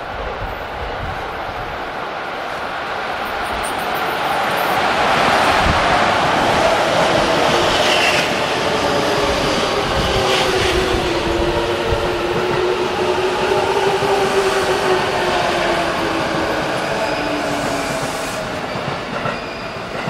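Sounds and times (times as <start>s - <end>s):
train wheels rumbling on rails: 3.2s - 20.0s.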